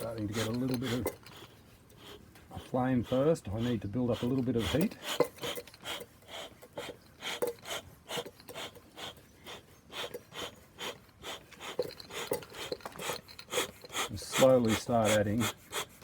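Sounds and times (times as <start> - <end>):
bellows pumping puffs of air: 0.0 - 16.0.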